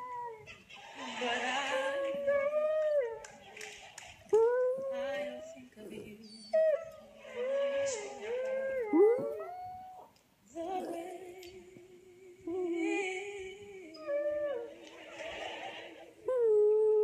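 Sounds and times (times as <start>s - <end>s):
recorded dog singing: 0.0s - 3.6s, 4.3s - 15.2s.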